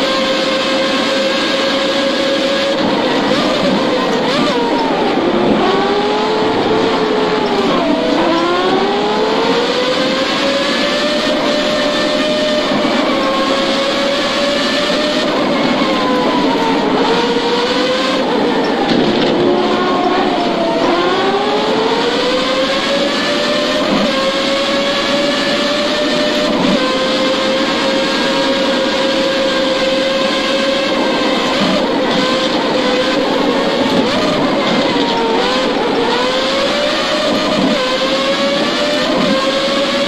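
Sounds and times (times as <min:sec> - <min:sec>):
racing car engine: 0:00.0 - 0:40.0.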